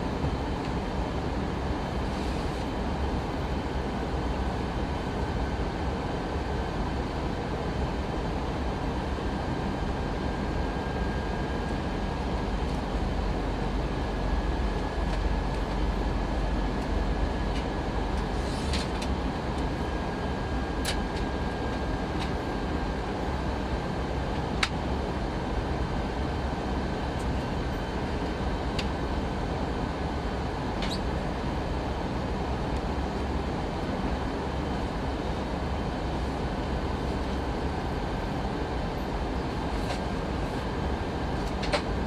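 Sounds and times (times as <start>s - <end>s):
airliner cabin engine and airflow rush: 0.0s - 42.0s
faint thin steady whine: 0.0s - 42.0s.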